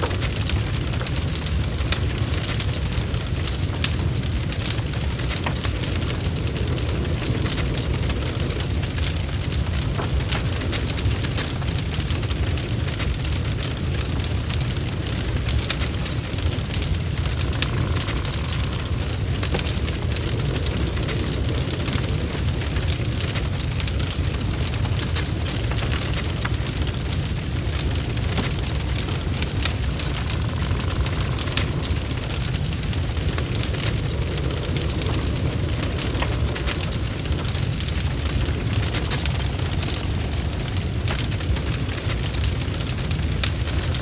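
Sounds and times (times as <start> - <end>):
bonfire crackling and popping: 0.0 - 44.0
low roar of flames: 0.0 - 44.0.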